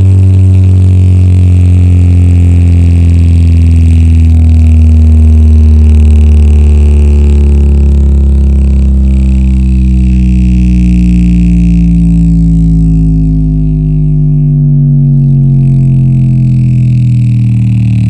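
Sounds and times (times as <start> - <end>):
distorted deep bass drone: 0.0 - 18.0.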